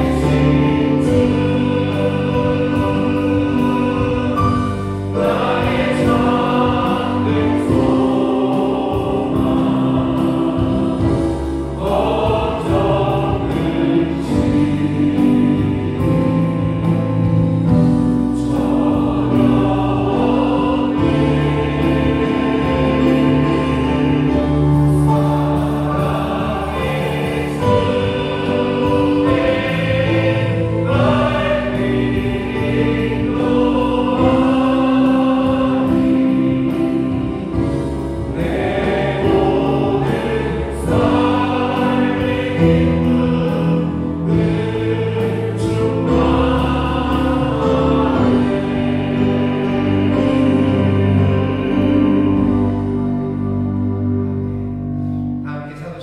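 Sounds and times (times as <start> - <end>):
drum kit: 0.0 - 53.9
group of voices singing: 0.0 - 54.4.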